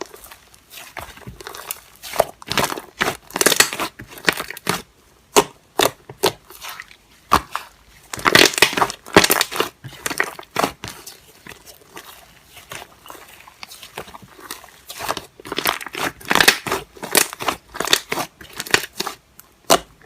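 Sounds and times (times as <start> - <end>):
crunching and crinkling: 0.0 - 20.0.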